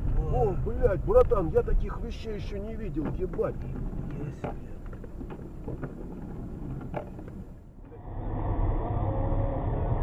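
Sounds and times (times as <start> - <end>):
rumble of tyres and engine: 0.0 - 10.0.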